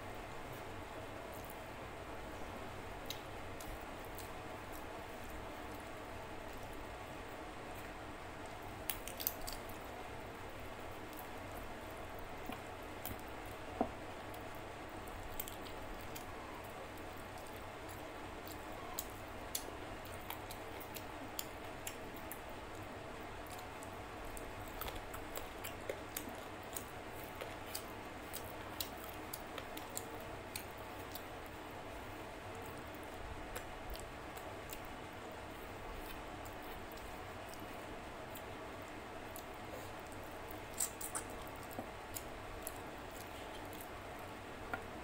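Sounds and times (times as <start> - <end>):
low background hum: 0.0 - 45.0
chewing: 3.0 - 6.8, 7.7 - 10.0, 10.8 - 45.0.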